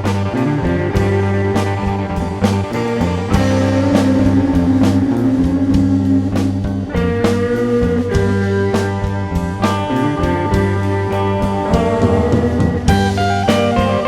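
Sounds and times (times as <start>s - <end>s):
drum hits: 0.0s - 14.0s
rock band instrumental: 0.0s - 14.0s.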